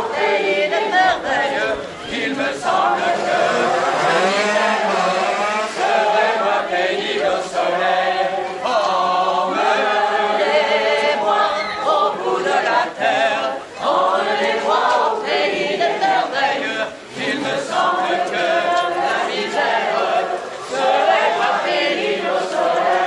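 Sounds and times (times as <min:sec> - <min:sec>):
choir singing long notes: 0:00.0 - 0:23.0.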